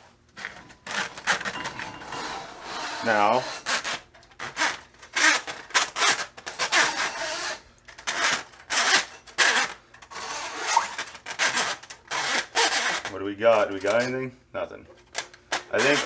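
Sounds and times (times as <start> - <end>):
steel drain snake cable scraping: 0.0 - 14.3, 14.9 - 16.0.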